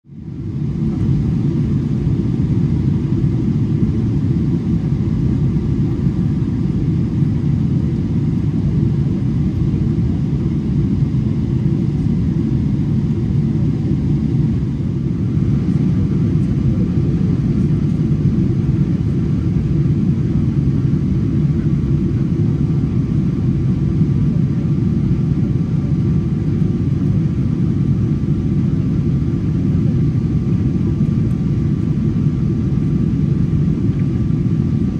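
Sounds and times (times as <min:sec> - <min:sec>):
airliner engine rumble: 0:00.1 - 0:34.9.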